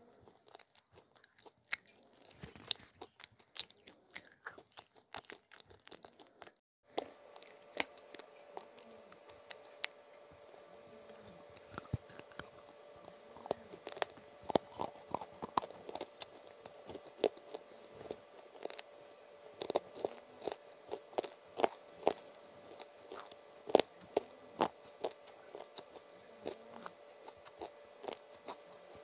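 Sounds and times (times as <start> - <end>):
crunchy chewing: 0.0 - 29.0
faint steady hum: 0.0 - 29.0.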